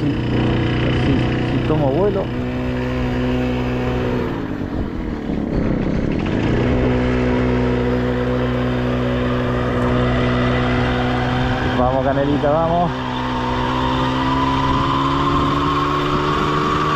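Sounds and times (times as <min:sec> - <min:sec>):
small motorcycle engine running: 0:00.0 - 0:16.9.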